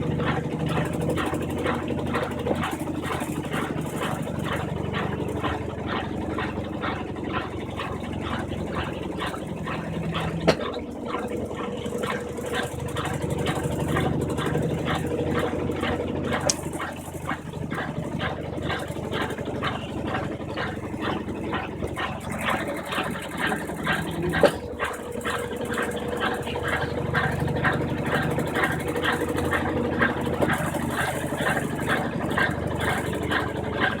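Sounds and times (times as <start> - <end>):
washing machine motor hum: 0.0 - 34.0
washing machine swishing water: 0.0 - 34.0.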